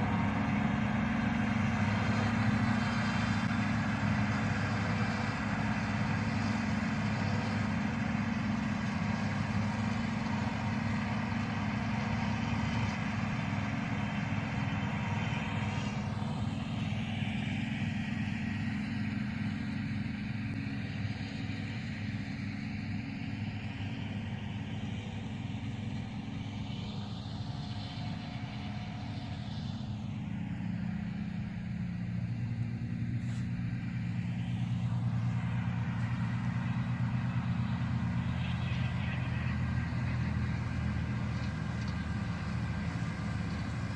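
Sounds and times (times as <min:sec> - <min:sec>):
harvester engine hum: 0:00.0 - 0:43.9.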